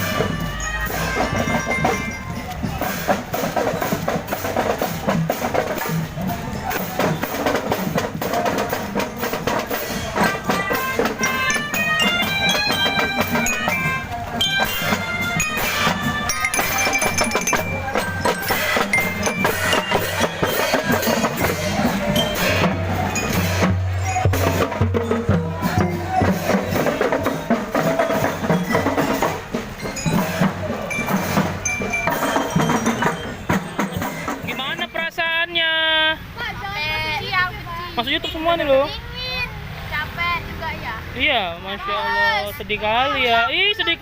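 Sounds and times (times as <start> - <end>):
mallet bells melody: 0.0 - 35.5
marching drums beating: 0.0 - 36.6.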